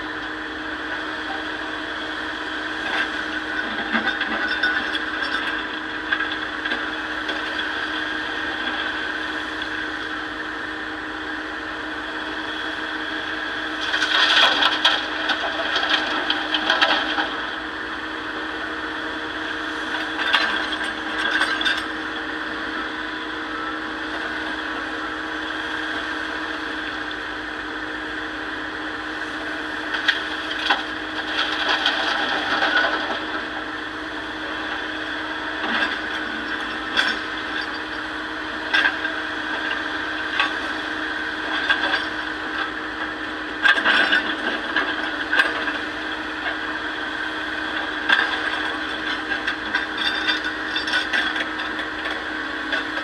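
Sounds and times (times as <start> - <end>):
excavator engine running: 0.0 - 53.0.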